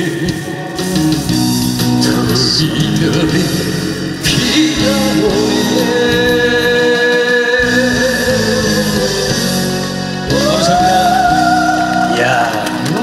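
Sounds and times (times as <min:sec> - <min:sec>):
man singing into a microphone: 0:00.0 - 0:01.1, 0:02.0 - 0:13.0
instrumental backing music: 0:00.0 - 0:13.0.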